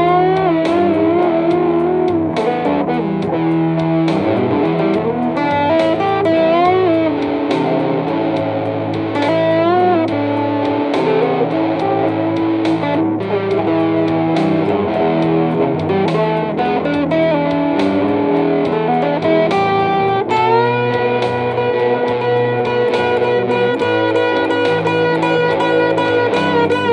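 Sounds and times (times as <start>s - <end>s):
electric guitar blues lead: 0.0s - 26.9s.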